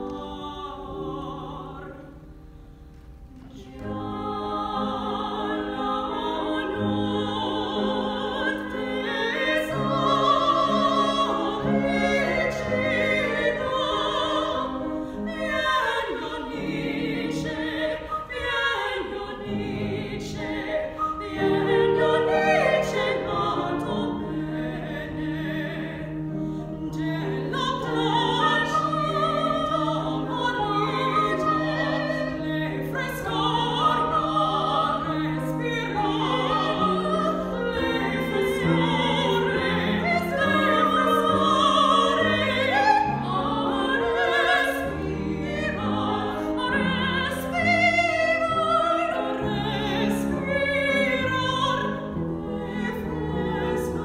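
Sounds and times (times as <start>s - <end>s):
two women singing operatic duet: 0.0s - 2.4s, 3.3s - 54.0s
grand piano: 0.0s - 54.0s.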